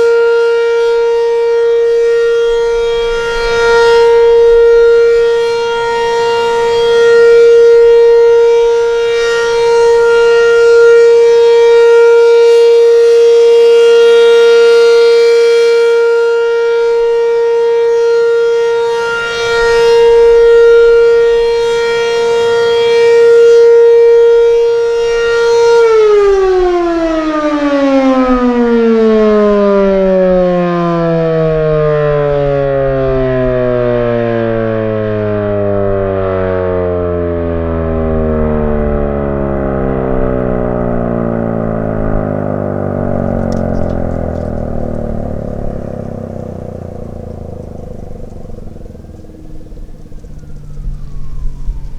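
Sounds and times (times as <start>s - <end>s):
tornado siren steady tone: 0.0s - 51.9s.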